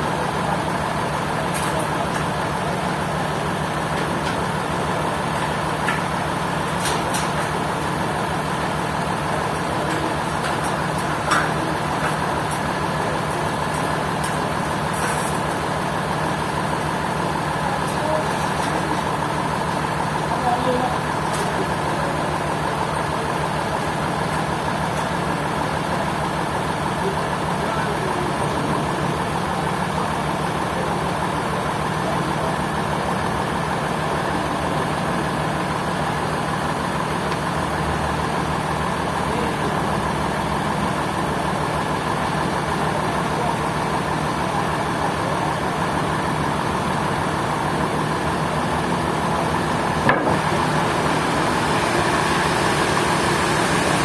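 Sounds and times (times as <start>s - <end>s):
heavy engine running: 0.0s - 54.0s.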